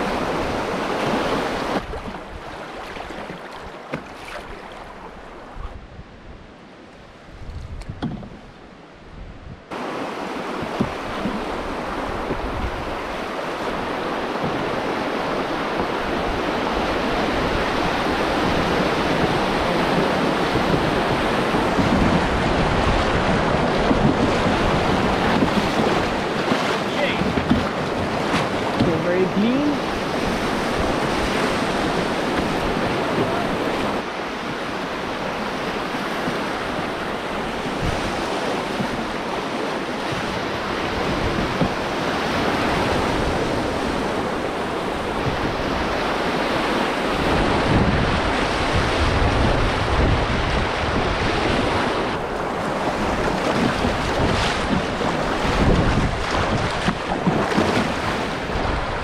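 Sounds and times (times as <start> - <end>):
river water rushing: 0.0 - 5.6, 9.7 - 59.0
wind buffeting microphone: 4.4 - 59.0.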